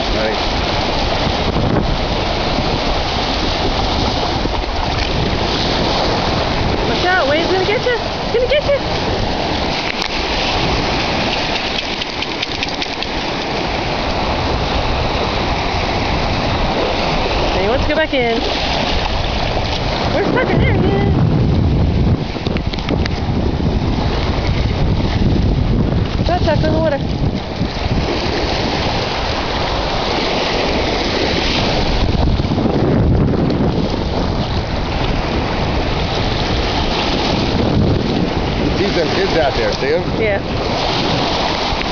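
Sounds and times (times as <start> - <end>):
ocean surf rushing: 0.0 - 41.9
wind rumbling on microphone: 0.0 - 41.9.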